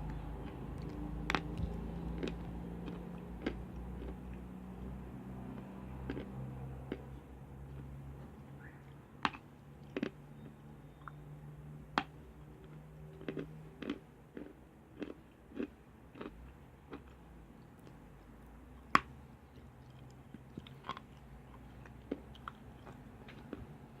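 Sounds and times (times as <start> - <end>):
chalk being chewed and crunched: 0.0 - 8.0, 12.6 - 24.0
low steady hum: 0.0 - 24.0.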